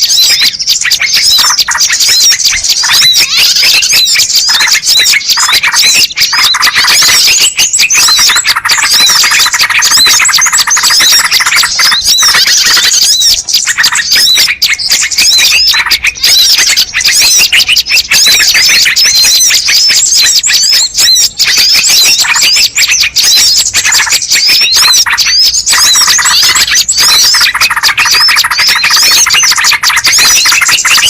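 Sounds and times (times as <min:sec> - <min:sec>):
small birds chirping and twittering: 0:00.0 - 0:31.0.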